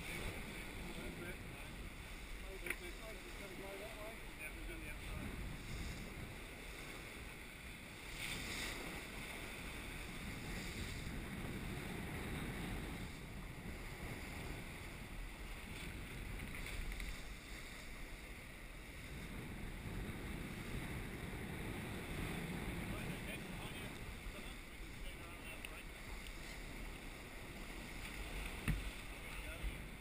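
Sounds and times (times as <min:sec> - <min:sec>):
water rushing along hull: 0:00.0 - 0:30.0
wind rumbling on microphone: 0:00.0 - 0:30.0.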